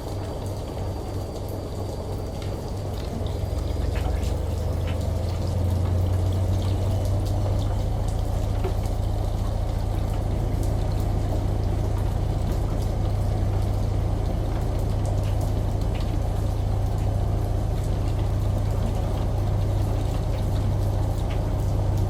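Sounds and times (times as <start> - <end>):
running pouring water: 0.0 - 22.0
water drops ticking: 0.1 - 22.0.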